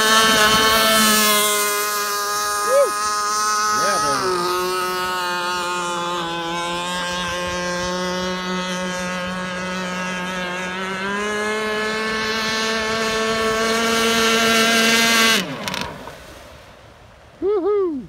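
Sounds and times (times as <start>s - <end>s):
rc speedboat engine drone: 0.0s - 16.4s.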